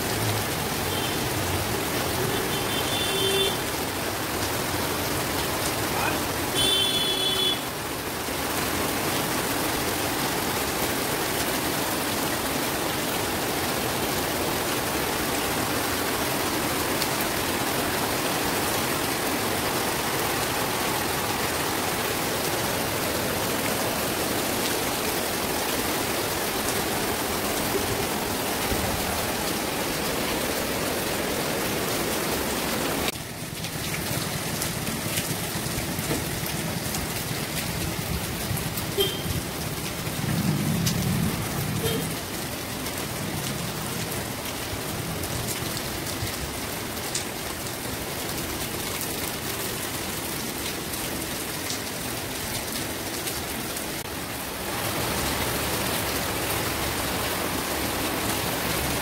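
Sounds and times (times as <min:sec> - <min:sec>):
heavy rain on wet concrete: 0:00.0 - 0:59.0.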